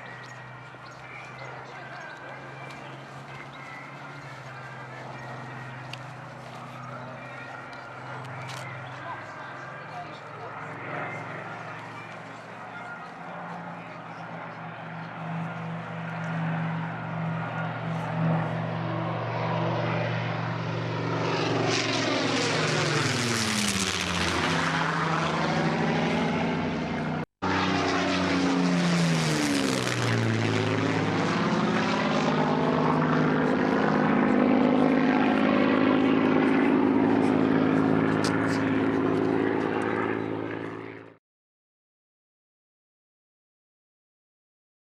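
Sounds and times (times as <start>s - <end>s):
propeller aircraft engine drone: 0.0s - 41.2s.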